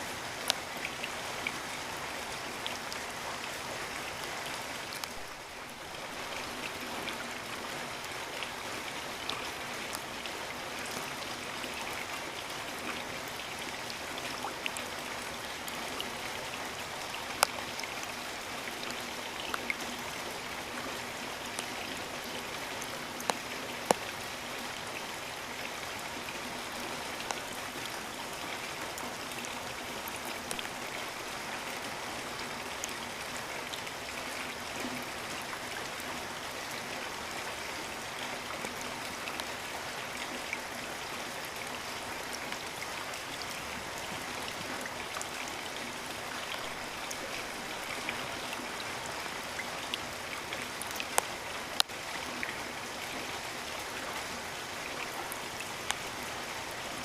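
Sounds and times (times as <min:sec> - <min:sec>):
raindrops ticking close by: 0:00.0 - 0:57.0
steady rainfall hissing: 0:00.0 - 0:57.0.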